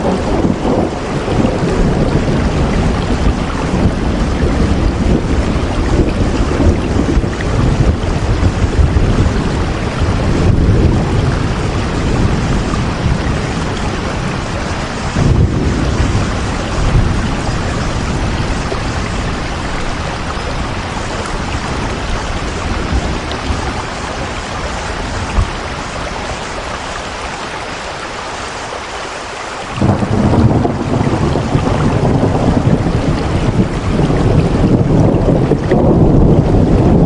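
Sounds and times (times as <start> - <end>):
deep rumble: 0.0 - 26.6, 29.8 - 37.0
heavy rain: 0.0 - 37.0.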